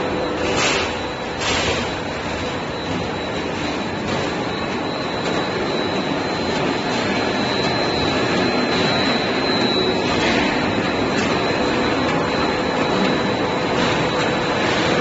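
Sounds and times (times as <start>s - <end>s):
roll forming machine running: 0.0s - 15.0s
thin high whine: 0.0s - 15.0s.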